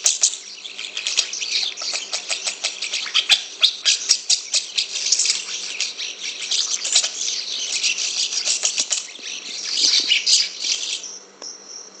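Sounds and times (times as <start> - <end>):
starling singing fast chatter: 0.6 - 11.0.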